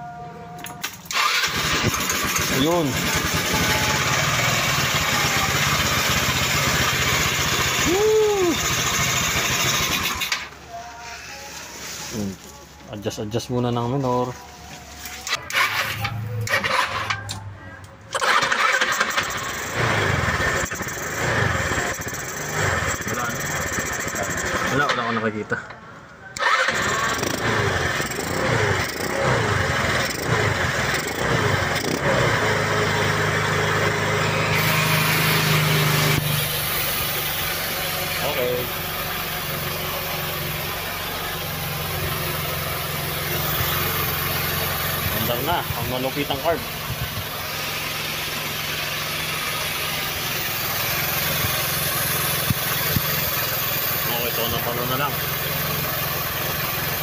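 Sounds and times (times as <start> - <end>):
scooter engine running: 1.1 - 10.4, 18.2 - 24.9, 26.4 - 57.0.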